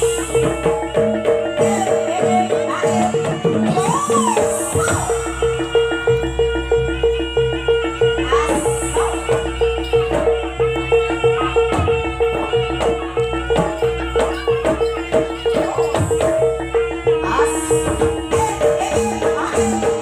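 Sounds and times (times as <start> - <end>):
drums: 0.0 - 20.0
rattling percussion: 0.0 - 20.0.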